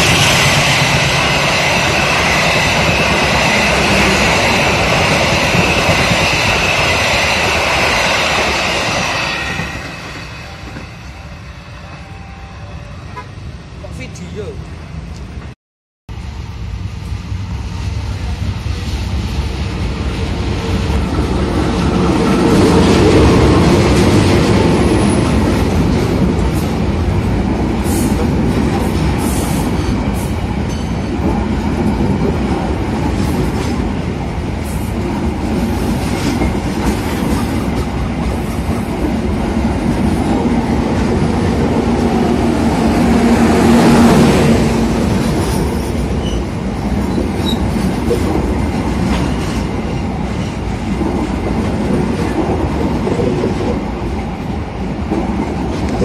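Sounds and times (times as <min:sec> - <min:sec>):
train wheels rumbling on rails: 0:00.0 - 0:12.2, 0:13.2 - 0:56.0.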